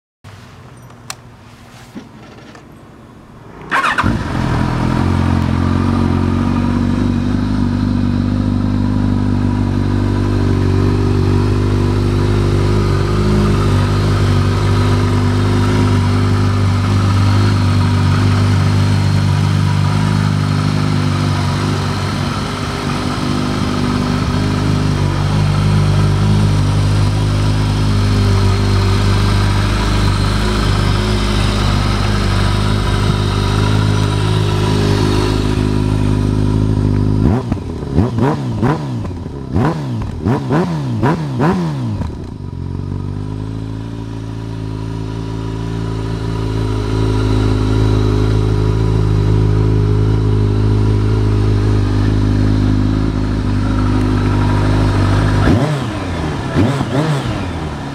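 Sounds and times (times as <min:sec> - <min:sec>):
motorcycle engine starting and idling: 0:02.0 - 0:57.9.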